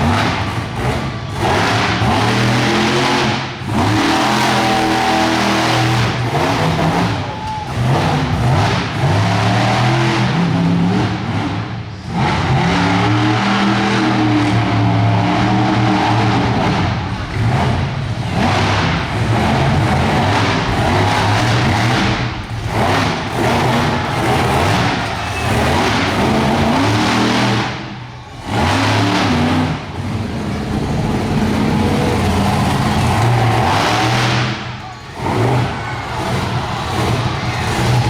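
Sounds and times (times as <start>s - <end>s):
monster truck engine revving: 0.0s - 38.0s.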